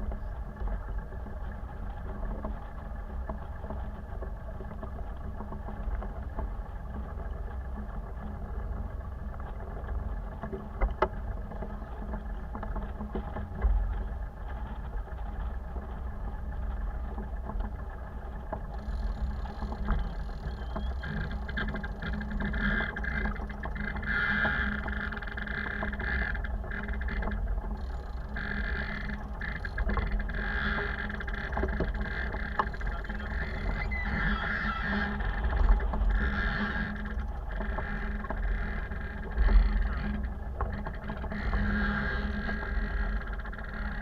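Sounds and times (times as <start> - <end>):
boat engine rumble: 0.0 - 44.0.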